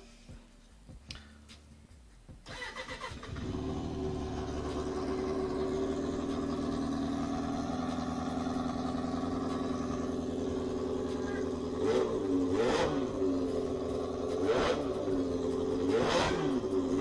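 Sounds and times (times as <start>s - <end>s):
motorcycle engine idling and revving: 0.9s - 17.0s.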